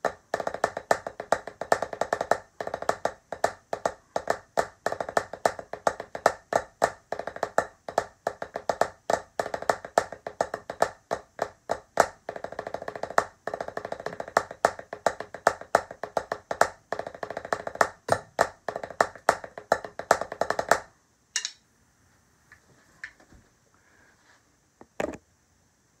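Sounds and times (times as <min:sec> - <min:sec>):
drum played with sticks: 0:00.0 - 0:20.9.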